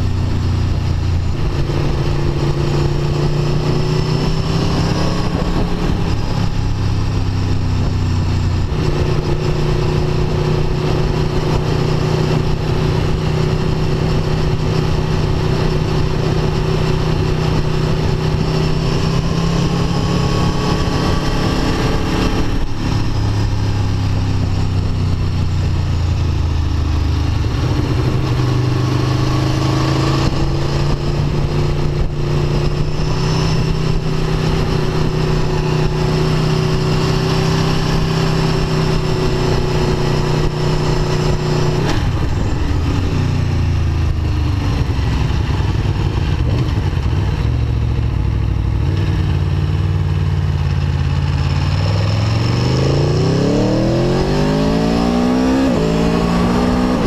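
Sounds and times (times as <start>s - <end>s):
wind noise on microphone: 0.0s - 49.5s
motorcycle engine running: 0.0s - 57.0s.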